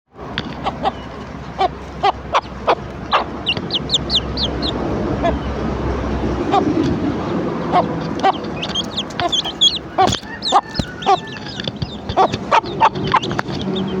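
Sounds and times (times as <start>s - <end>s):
chicks peeping: 0.3s - 14.0s
hen clucking: 0.3s - 14.0s.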